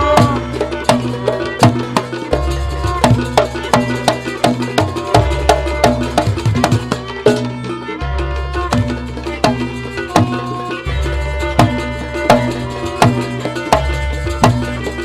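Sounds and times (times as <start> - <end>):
drum and percussion strokes: 0.0 - 15.0.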